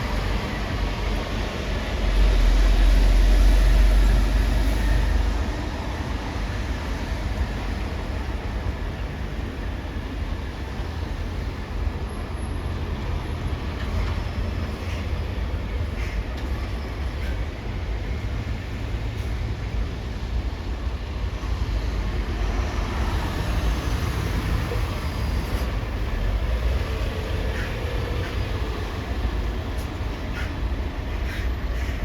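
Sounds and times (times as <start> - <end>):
traffic noise with low drone: 0.0 - 32.0.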